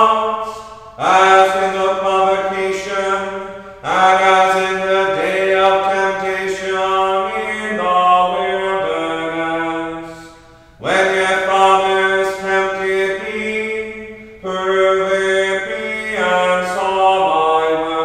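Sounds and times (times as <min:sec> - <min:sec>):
man chanting plainsong: 0:00.0 - 0:18.0.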